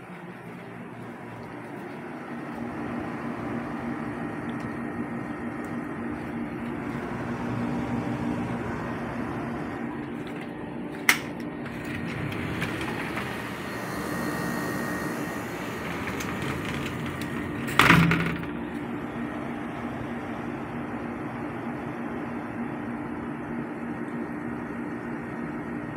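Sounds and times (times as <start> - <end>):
air conditioner humming: 0.0 - 25.9.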